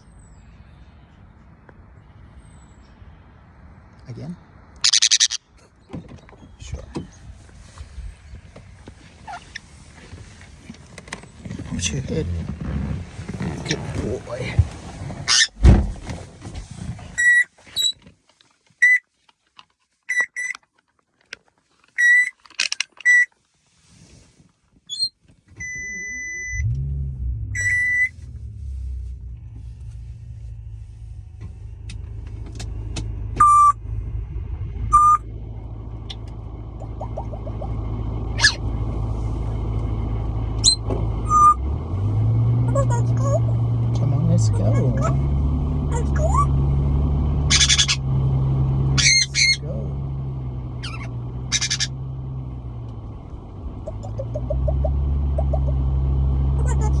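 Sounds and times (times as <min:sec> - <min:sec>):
car engine running: 0:00.0 - 0:17.4, 0:25.5 - 0:57.0.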